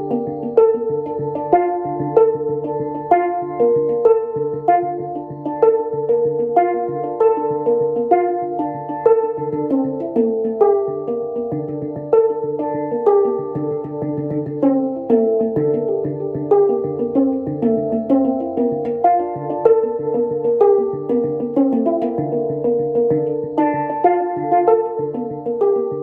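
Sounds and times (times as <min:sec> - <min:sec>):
handpan melody: 0:00.0 - 0:26.0.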